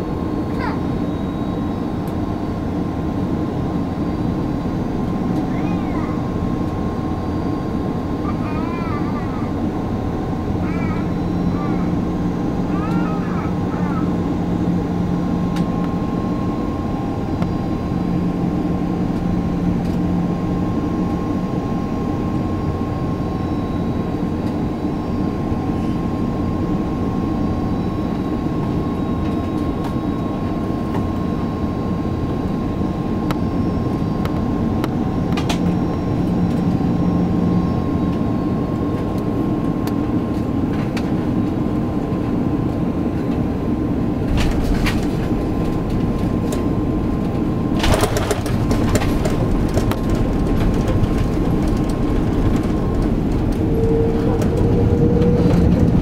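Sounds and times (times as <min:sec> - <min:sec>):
aircraft engine and airflow roar: 0:00.0 - 0:56.0
constant cabin hum: 0:00.0 - 0:56.0
thin steady whine: 0:00.0 - 0:56.0.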